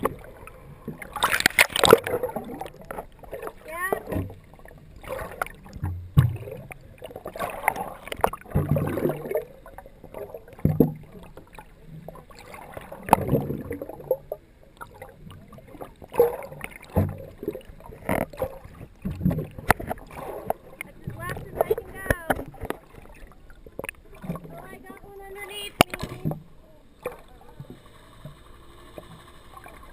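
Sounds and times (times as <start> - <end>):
water splashing against boat hull: 0.0 - 29.9.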